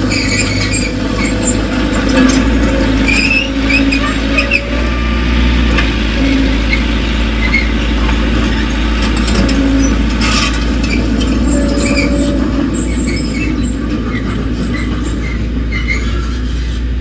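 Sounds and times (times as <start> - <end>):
bulldozer diesel engine running: 0.0 - 17.0
steel tracks squeaking: 0.0 - 17.0.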